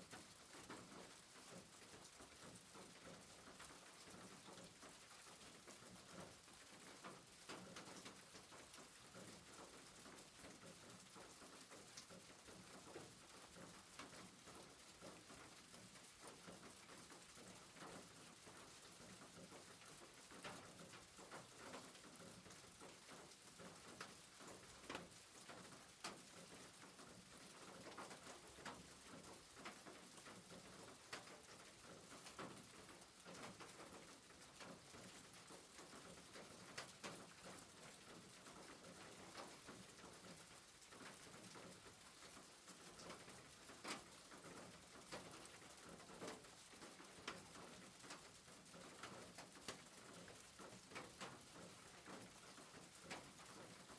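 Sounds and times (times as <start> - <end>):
rain hissing on a rooftop: 0.0 - 53.9.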